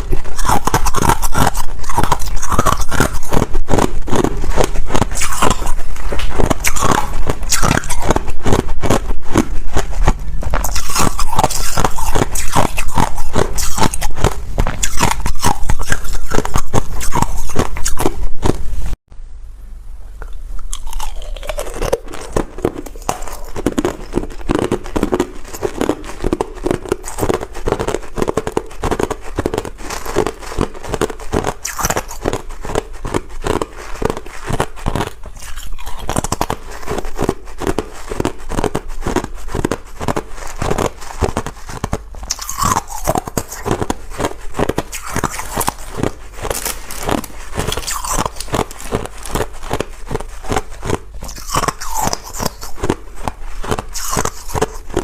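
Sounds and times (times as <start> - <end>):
ice crunching in mouth: 0.0 - 18.7, 20.2 - 55.0.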